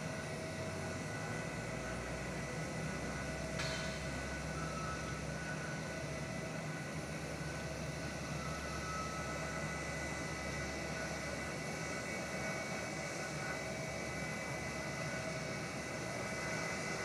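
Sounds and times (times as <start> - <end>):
jet engine idling whine: 0.0 - 17.0.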